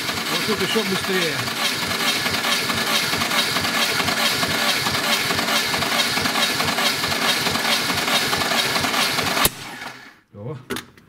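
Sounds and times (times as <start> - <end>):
starter motor cranking engine: 0.0 - 10.2.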